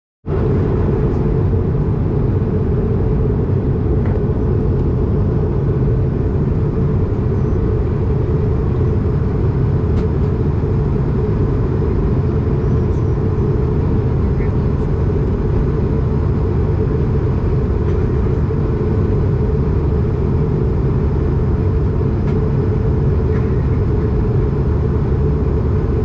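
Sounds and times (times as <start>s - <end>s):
airplane cabin engine rush: 0.2s - 26.0s.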